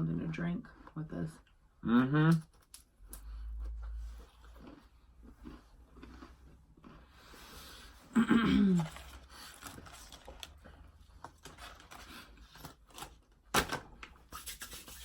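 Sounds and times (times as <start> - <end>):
chewing crunchy crackers: 0.2 - 13.3.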